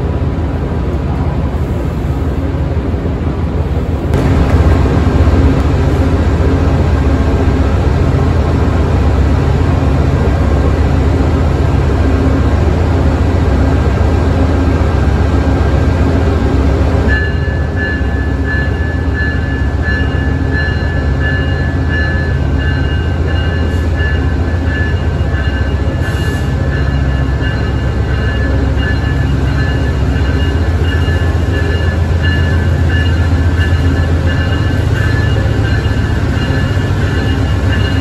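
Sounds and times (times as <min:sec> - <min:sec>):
locomotive engine rumble: 0:00.0 - 0:38.0.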